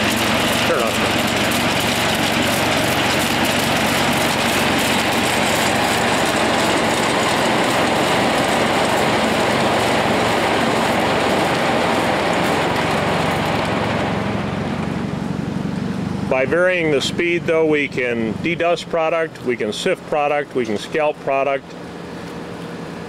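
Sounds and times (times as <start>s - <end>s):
sifter machine rumbling and rattling: 0.0s - 23.0s.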